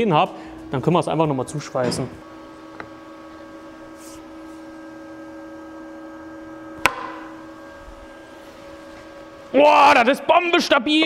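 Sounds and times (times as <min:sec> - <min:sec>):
faint steady hum of held tones: 0:00.0 - 0:11.0.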